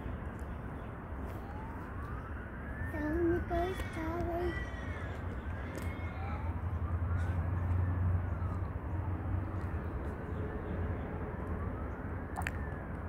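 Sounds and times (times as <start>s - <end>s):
distant siren wailing: 0.0s - 13.0s.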